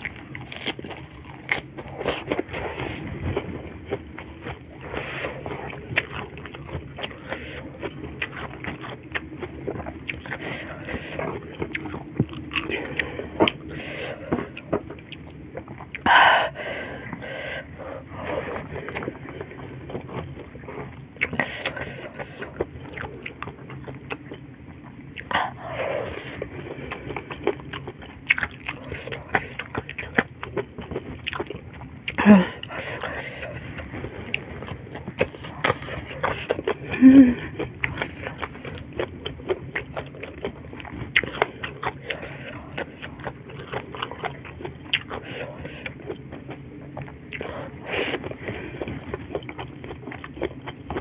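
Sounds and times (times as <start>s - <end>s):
chewing and wet mouth sounds: 0.0s - 51.0s.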